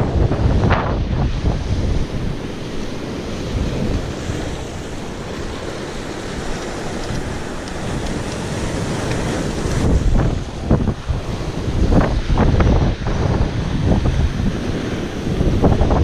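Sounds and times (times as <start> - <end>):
surf washing against rocks: 0.0 - 16.0
wind buffeting microphone: 0.0 - 16.0.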